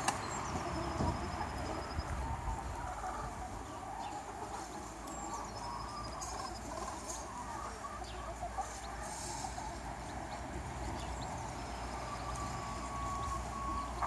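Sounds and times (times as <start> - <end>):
chickens clucking: 0.0 - 14.0
small birds chirping: 0.0 - 14.0.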